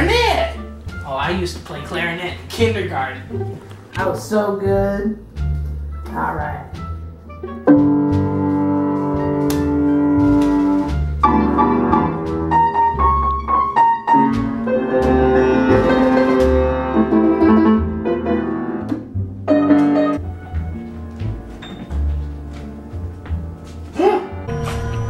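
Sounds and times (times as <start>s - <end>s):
upright piano playing: 0.0s - 25.0s.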